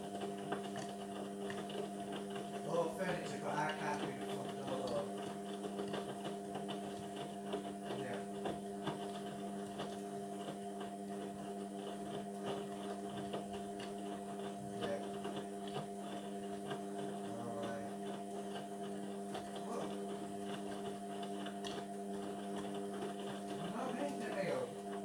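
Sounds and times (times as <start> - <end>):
washing machine motor hum: 0.0 - 25.0.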